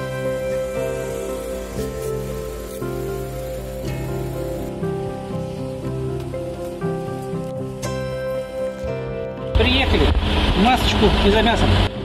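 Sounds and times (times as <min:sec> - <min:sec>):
even hiss: 0:00.0 - 0:11.9
background music sustained notes: 0:00.0 - 0:12.0.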